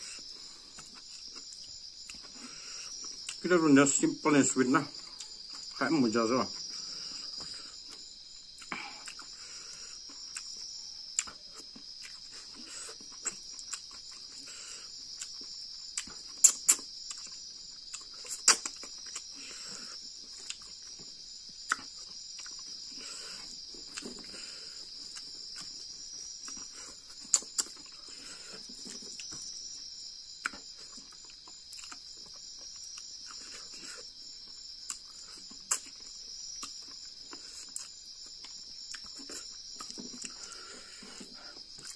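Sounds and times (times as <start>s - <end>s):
crickets trilling: 0.0s - 41.9s
chewing and lip smacks: 0.2s - 3.5s, 6.6s - 29.5s, 30.3s - 41.9s.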